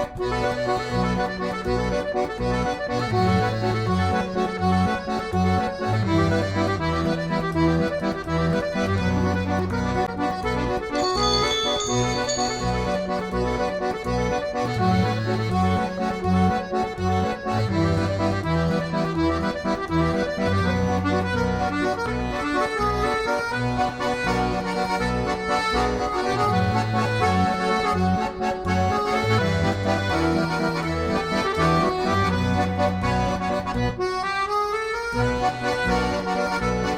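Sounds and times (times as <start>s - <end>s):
bass line: 0.0s - 34.3s
instrumental music: 0.0s - 36.9s.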